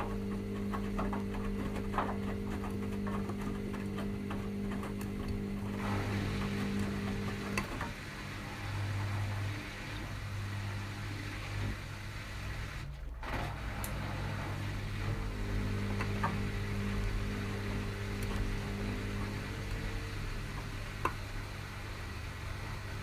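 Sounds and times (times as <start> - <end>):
washing machines motor hum: 0.0 - 23.0.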